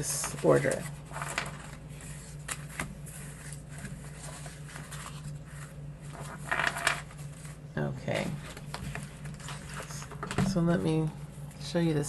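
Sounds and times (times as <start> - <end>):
paper rustling: 0.0 - 7.7, 8.3 - 10.4
steady low hum: 0.0 - 12.0.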